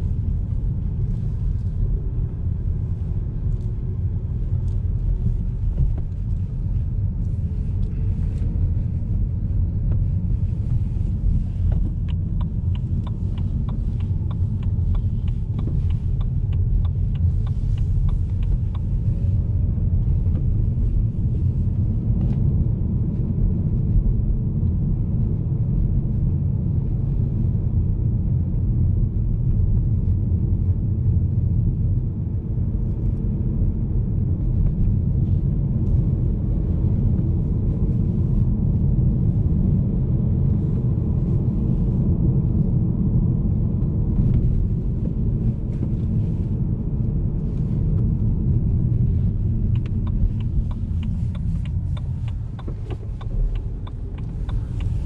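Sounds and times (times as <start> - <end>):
tyre and road rumble: 0.0 - 25.3, 32.0 - 55.0
car engine drone: 0.0 - 55.0.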